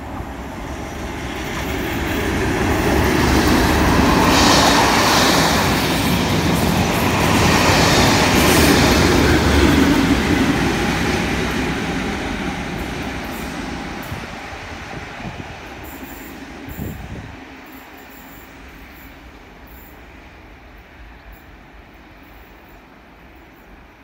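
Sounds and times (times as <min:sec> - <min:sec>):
diesel locomotives passing: 0:00.0 - 0:24.0
train wheels on rails: 0:00.0 - 0:24.0.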